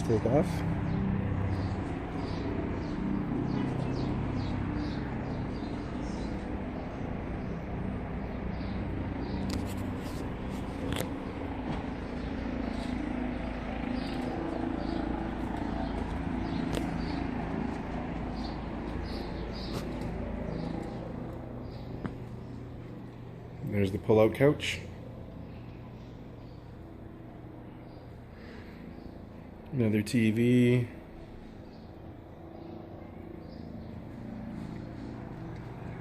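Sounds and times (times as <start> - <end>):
distant traffic rumble: 0.0 - 36.0
small birds chirping: 0.0 - 36.0.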